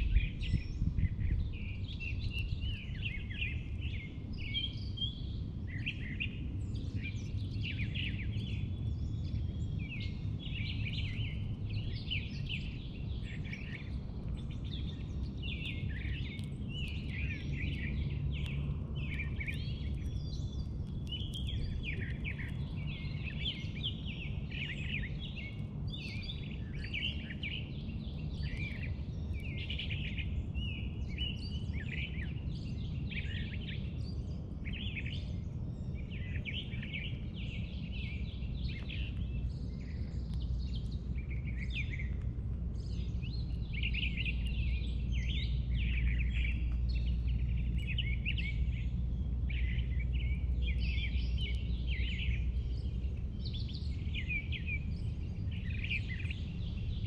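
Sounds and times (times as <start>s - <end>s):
low background rumble: 0.0s - 57.0s
songbirds chirping: 0.0s - 57.0s.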